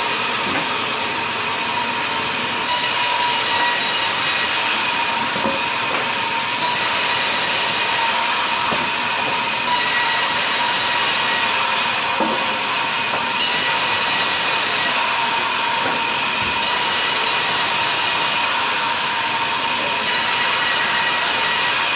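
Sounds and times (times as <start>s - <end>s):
band saw cutting log: 0.0s - 21.9s.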